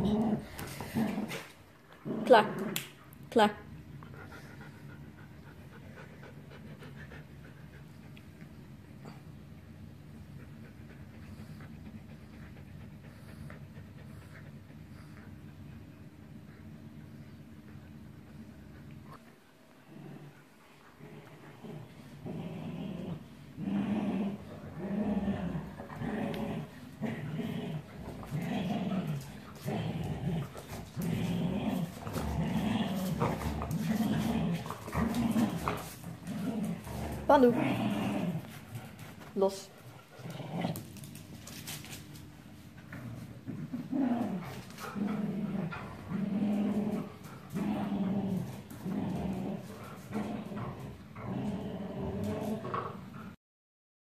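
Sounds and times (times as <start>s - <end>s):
dogs growling: 0.0s - 3.2s, 10.4s - 17.0s, 17.6s - 53.4s.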